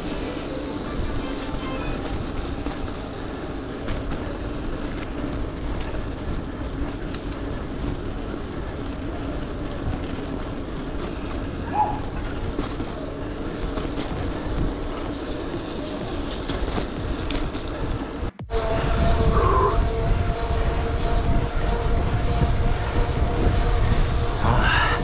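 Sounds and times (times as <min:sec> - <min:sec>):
bicycle tyre and road rumble: 0:00.0 - 0:25.0
wind rush on microphone: 0:00.0 - 0:25.0.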